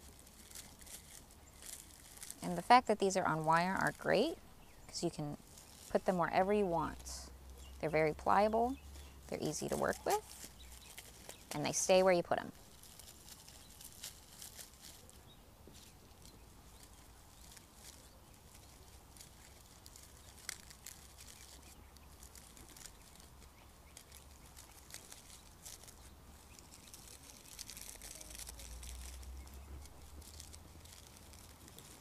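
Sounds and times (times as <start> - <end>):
dried straw rustling and crackling: 0.0 - 32.0.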